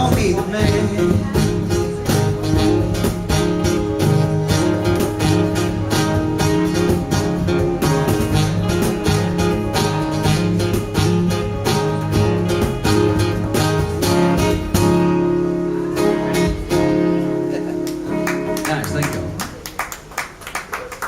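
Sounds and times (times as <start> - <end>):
acoustic guitar strumming: 0.0 - 19.4.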